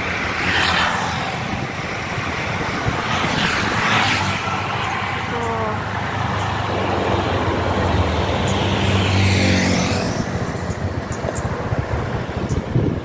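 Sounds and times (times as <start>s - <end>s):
tyre and road noise: 0.0s - 13.0s
vehicle engine hum: 0.0s - 13.0s
vehicle passing: 0.0s - 13.0s.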